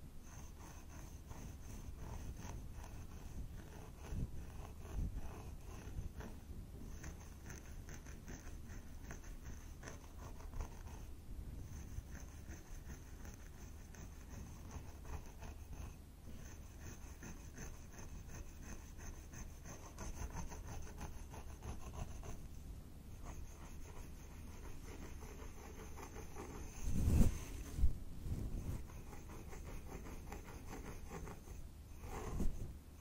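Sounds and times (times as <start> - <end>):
tool scratching scalp: 0.3 - 11.1, 11.7 - 22.4, 23.2 - 27.7, 28.6 - 32.6.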